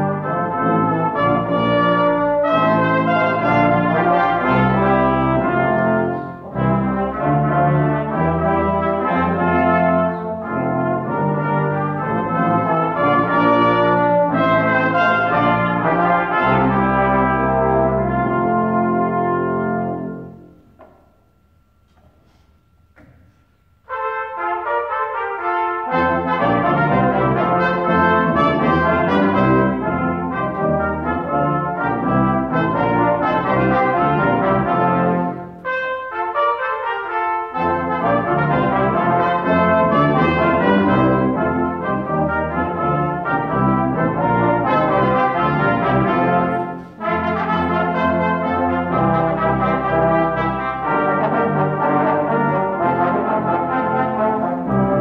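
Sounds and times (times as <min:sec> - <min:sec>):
brass quintet playing: 0:00.0 - 0:21.1, 0:21.8 - 0:55.0.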